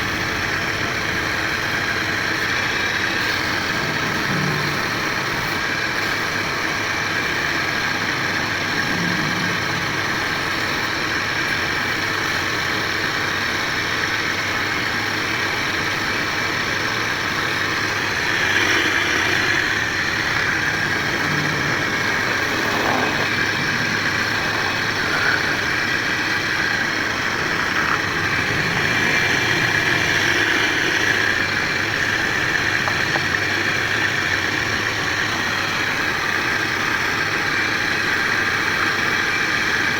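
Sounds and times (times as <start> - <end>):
machine droning: 0.0 - 39.9.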